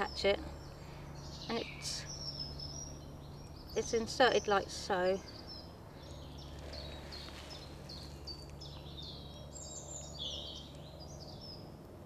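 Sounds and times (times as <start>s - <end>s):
small bird chirping: 0.0s - 11.8s
faint low hum: 0.0s - 12.0s.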